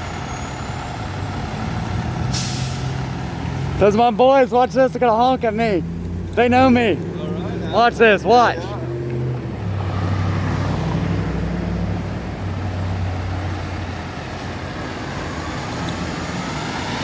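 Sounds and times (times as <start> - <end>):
fire truck engine drone: 0.0 - 17.0
road noise: 0.0 - 17.0.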